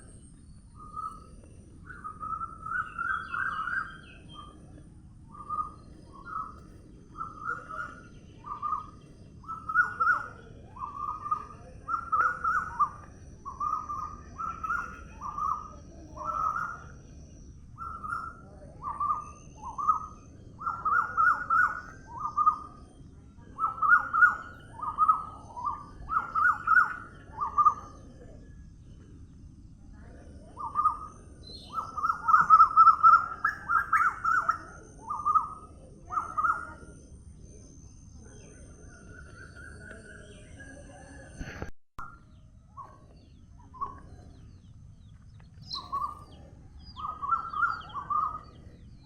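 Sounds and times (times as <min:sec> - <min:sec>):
low outdoor hum: 0:00.0 - 0:49.0.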